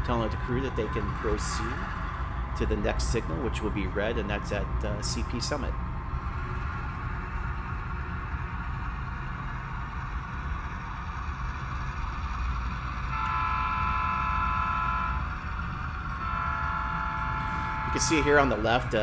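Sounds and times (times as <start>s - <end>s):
diesel train rumble: 0.0s - 19.0s
locomotive air horn chord: 0.0s - 19.0s.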